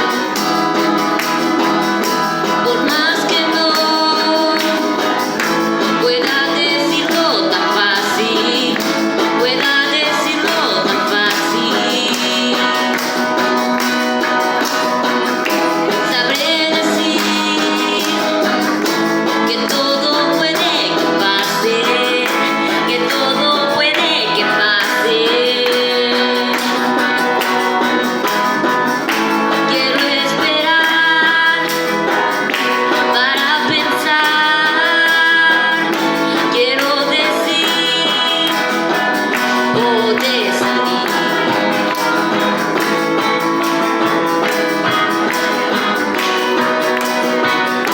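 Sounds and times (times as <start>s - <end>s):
guitar accompaniment: 0.0s - 47.9s
person singing: 0.0s - 47.9s.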